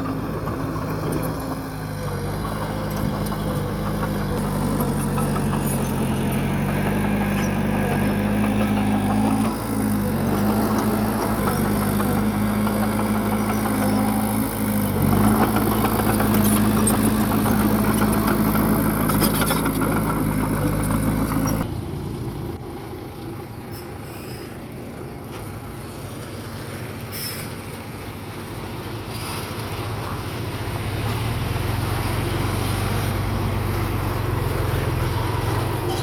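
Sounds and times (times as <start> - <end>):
bulldozer diesel engine running: 0.0 - 27.0, 27.6 - 36.0.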